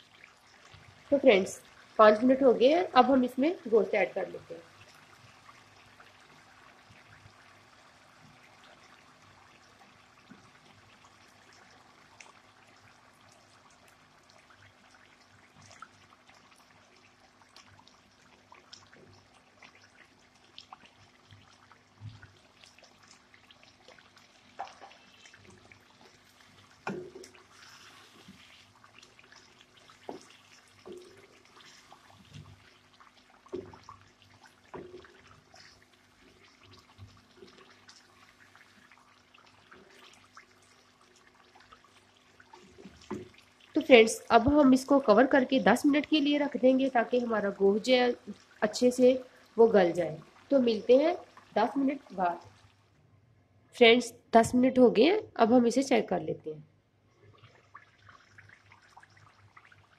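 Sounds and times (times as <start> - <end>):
spices frying in oil: 0.0 - 52.8.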